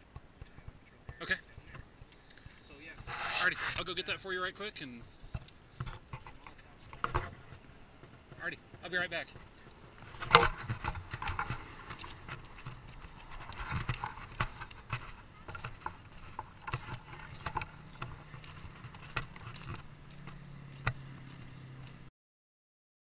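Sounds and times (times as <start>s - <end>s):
footsteps crunching on gravel: 0.4s - 22.1s.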